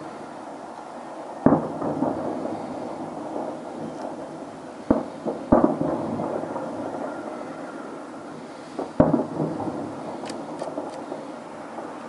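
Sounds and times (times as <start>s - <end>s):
distant fireworks booms: 0.0s - 12.0s
low rumble of fireworks display: 0.0s - 12.0s.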